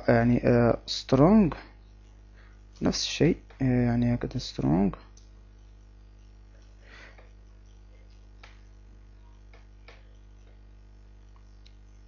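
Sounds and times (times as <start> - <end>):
low microphone hum: 0.0 - 12.0.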